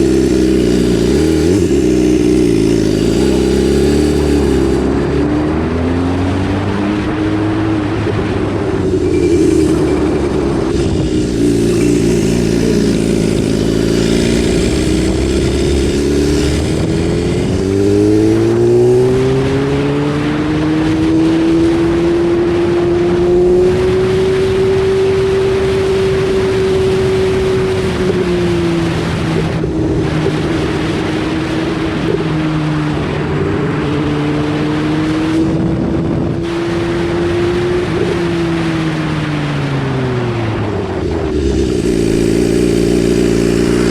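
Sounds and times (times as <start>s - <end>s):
motorcycle engine revving: 0.0s - 43.9s
wind rush: 0.0s - 43.9s.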